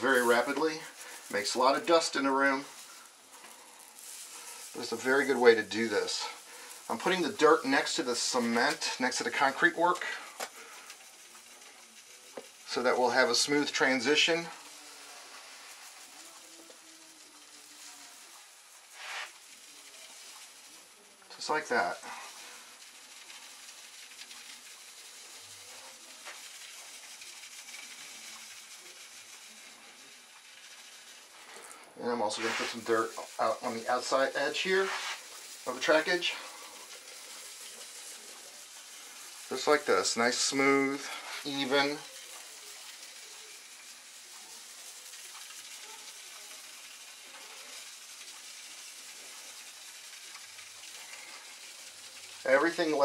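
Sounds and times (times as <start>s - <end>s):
dirt hissing through a colander: 0.0s - 53.0s.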